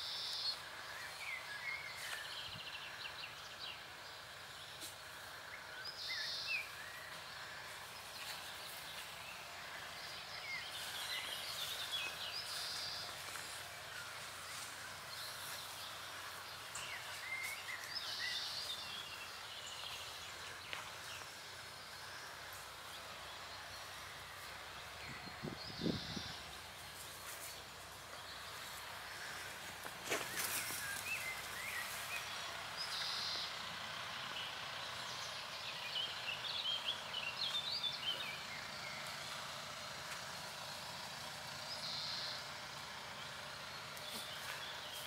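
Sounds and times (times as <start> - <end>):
songbird chirping: 0.0 - 45.0
steady background hiss: 0.0 - 45.0.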